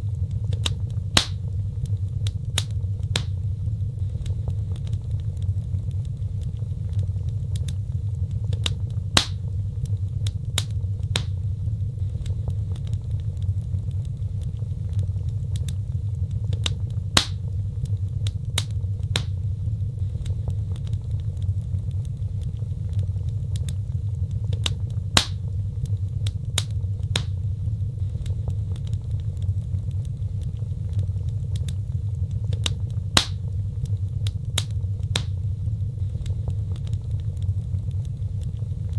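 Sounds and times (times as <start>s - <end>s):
fire crackling and popping: 0.0s - 38.9s
low fire rumble: 0.0s - 38.9s.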